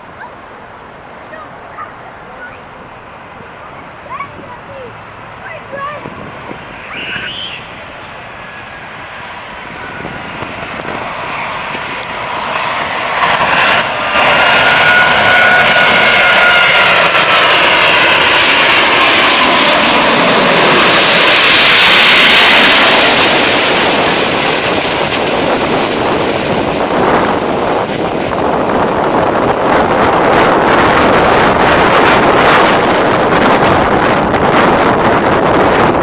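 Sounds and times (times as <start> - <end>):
jet airliner passing overhead: 0.0 - 36.0.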